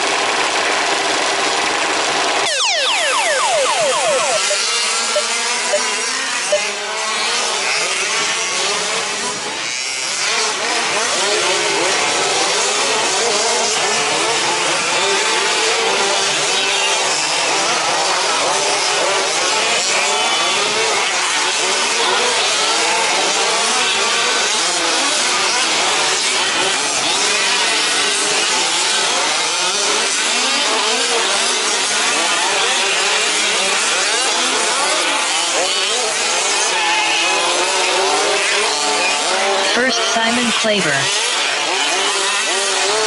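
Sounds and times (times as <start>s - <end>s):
small engines revving: 6.6s - 39.7s, 41.1s - 43.0s.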